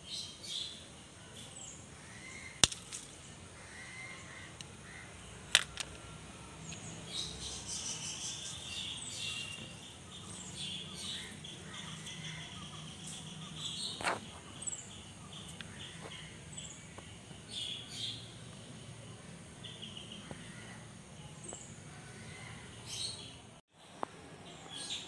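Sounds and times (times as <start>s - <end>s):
insects: 0.0s - 22.9s
birds chirping: 0.0s - 25.0s.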